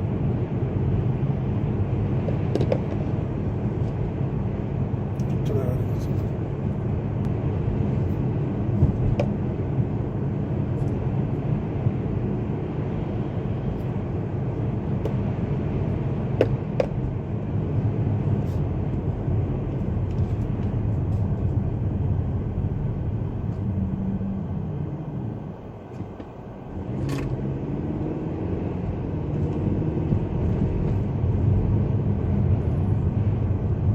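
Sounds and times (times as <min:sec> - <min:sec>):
car road and engine noise: 0:00.0 - 0:33.9.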